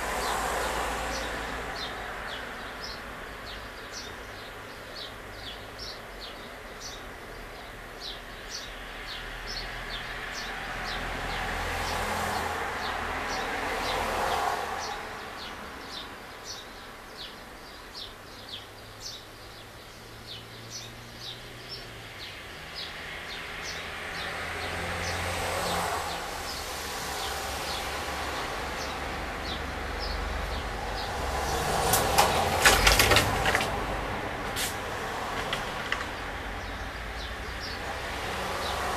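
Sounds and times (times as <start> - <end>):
birds chirping: 0.0 - 38.9
road traffic: 0.0 - 38.9
vehicles passing: 0.0 - 38.9.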